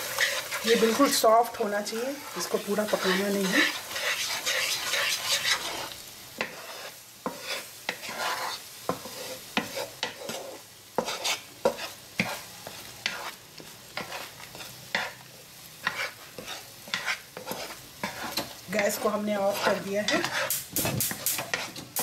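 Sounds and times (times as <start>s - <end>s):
eggs sizzling: 0.0s - 22.0s
spatula scraping and tapping a pan: 0.0s - 22.0s.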